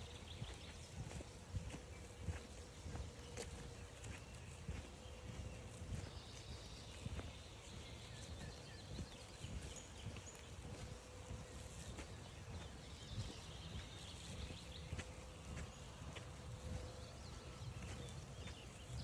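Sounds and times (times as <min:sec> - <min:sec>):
faint chirping bird calls: 0:00.0 - 0:19.0
footsteps on forest trail: 0:00.0 - 0:19.0.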